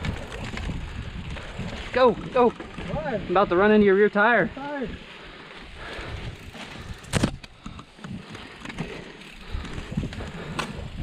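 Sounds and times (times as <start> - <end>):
bike rattling and clicking: 0.0 - 11.0
bike tyres on rocky trail: 0.0 - 11.0.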